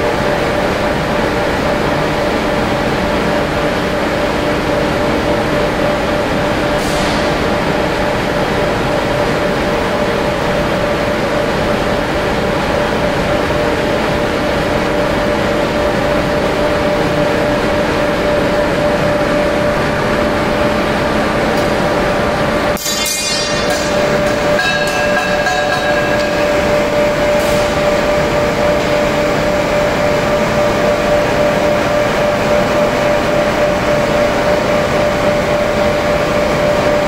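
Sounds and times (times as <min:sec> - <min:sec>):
constant hum: 0:00.0 - 0:37.0
furnace burner roaring: 0:00.0 - 0:37.0.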